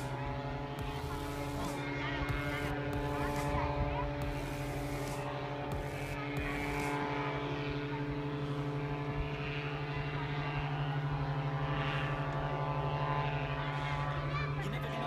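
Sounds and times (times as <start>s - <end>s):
paramotor engine and propeller drone: 0.0s - 15.0s.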